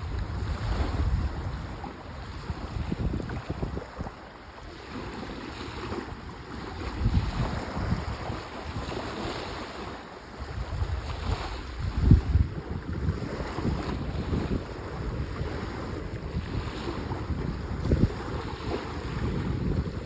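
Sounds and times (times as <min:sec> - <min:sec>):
small waves lapping on sand: 0:00.0 - 0:20.0
wind rumbling on microphone: 0:00.0 - 0:20.0.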